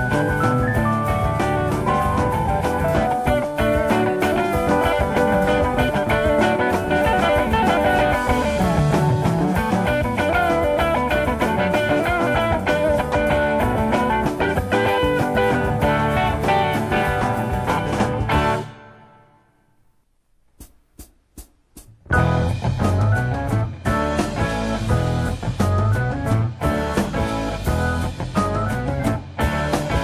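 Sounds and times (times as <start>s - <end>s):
drums with steady beat: 0.0s - 19.0s, 20.1s - 30.0s
guitar: 0.0s - 19.8s, 22.0s - 30.0s.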